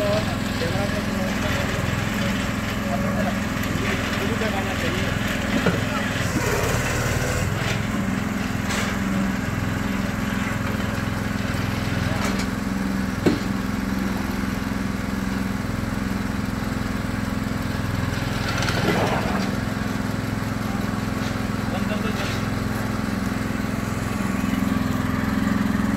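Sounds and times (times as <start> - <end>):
small engine running: 0.0 - 25.9.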